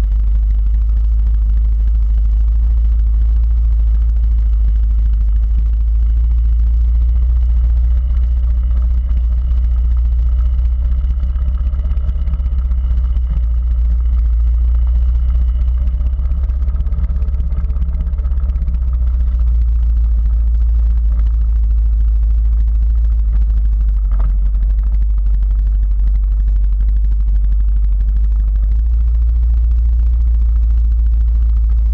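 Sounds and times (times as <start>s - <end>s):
quad bike engine rumbling: 0.0s - 31.9s.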